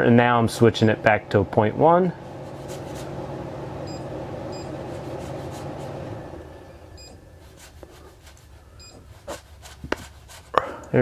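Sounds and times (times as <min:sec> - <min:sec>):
stepper motor humming: 0:00.5 - 0:09.4.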